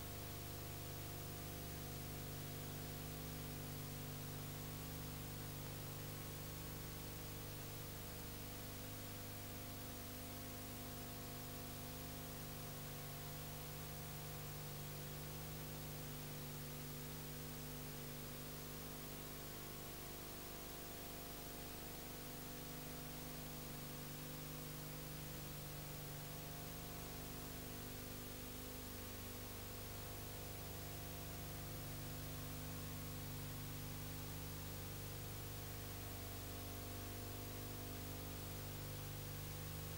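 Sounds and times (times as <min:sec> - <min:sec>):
low mains hum: 0:00.0 - 0:39.9.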